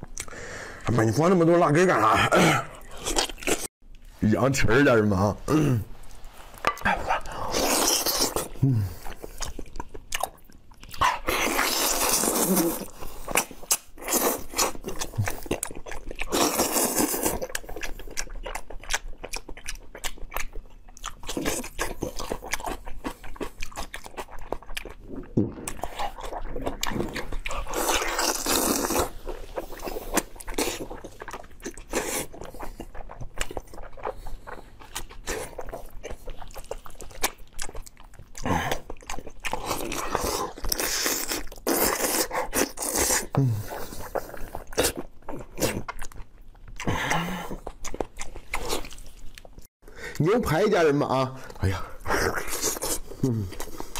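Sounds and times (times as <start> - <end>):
person chewing and sucking: 2.8 - 4.1, 6.0 - 49.7, 51.5 - 53.9.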